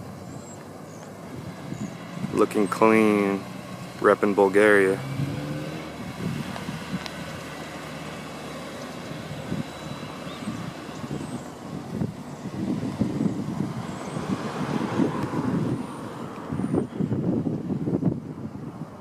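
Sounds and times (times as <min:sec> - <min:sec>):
distant car engine and road noise: 0:00.0 - 0:19.0.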